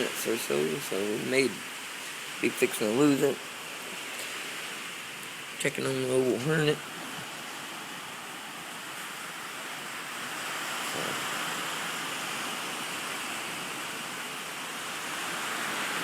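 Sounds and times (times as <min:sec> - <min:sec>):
rain and wind rushing: 0:00.0 - 0:16.0.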